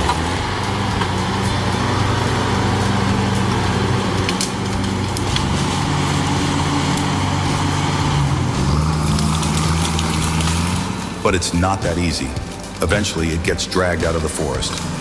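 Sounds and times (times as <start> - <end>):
diesel engines under load: 0.0 - 15.0
logs dragging: 0.0 - 15.0
sharp cracks: 0.0 - 15.0.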